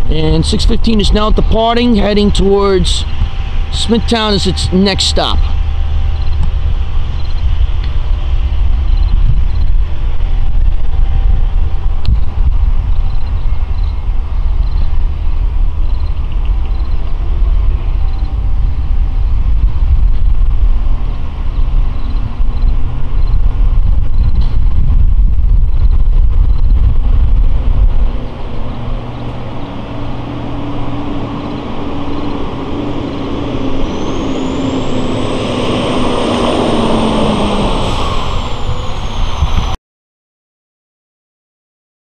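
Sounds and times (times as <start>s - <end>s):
diesel locomotive rumbling: 0.0s - 39.8s.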